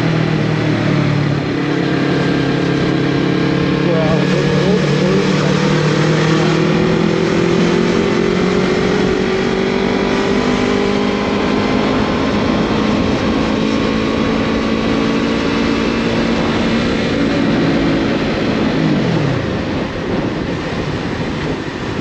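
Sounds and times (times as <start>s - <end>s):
motorcycle engine running: 0.0s - 22.0s
wind noise: 0.0s - 22.0s.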